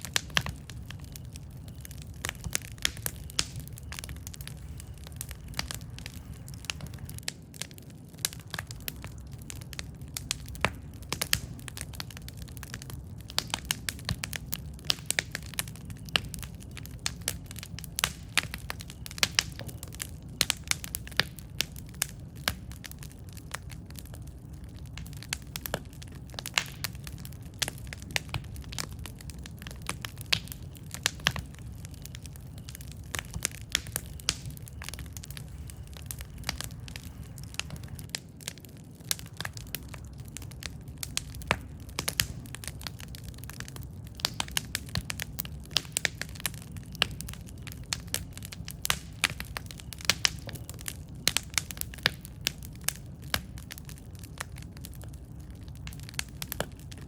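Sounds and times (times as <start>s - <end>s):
campfire pops and snaps: 0.0s - 57.0s
low rumble of burning fire: 0.0s - 57.0s.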